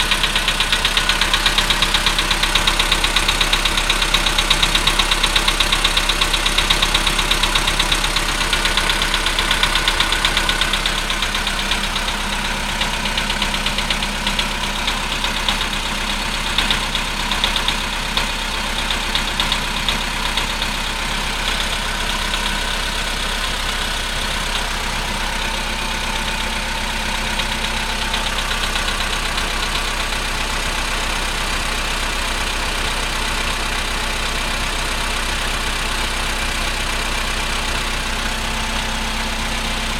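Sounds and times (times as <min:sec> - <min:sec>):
car engine idling with knocking: 0:00.0 - 0:39.9.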